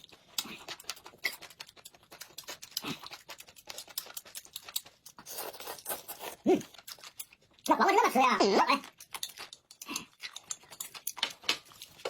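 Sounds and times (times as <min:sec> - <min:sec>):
chewing and mouth sounds: 0:00.0 - 0:12.0.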